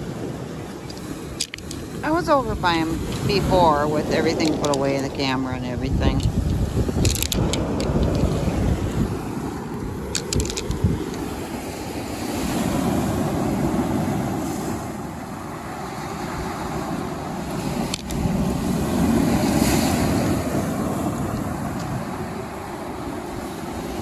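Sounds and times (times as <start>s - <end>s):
surf breaking on cobble shore: 0.0s - 24.0s
wind rumbling on microphone: 0.0s - 24.0s.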